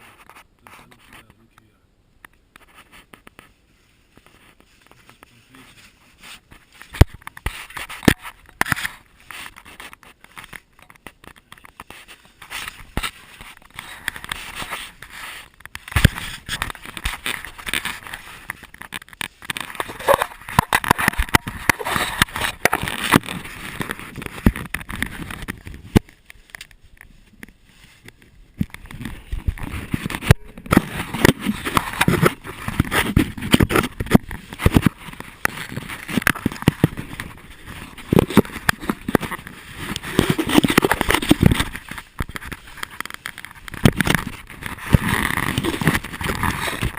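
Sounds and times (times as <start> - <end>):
clothing and gear rustling: 2.6 - 46.9.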